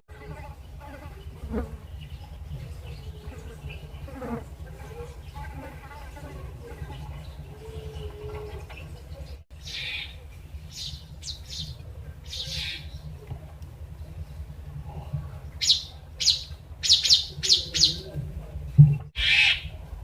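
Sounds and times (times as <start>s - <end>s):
birds chirping: 0.1s - 19.9s
steady low rumble: 0.1s - 20.0s.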